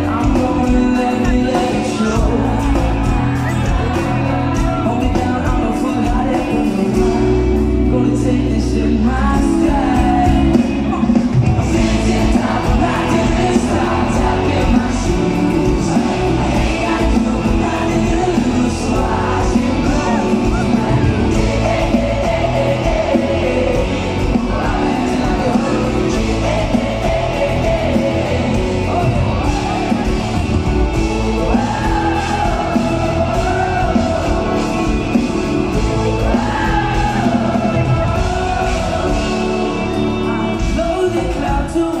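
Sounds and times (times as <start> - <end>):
live pop-rock band playing: 0.0 - 42.0
person singing: 0.0 - 42.0.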